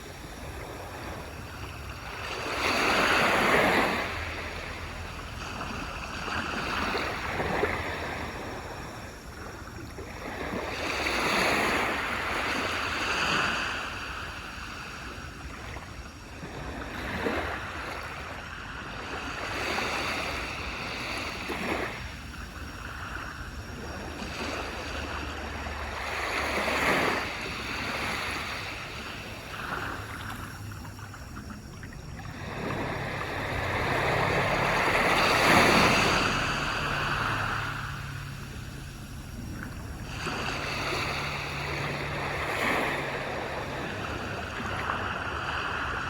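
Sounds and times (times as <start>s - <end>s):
waves breaking on a beach: 0.0s - 46.0s.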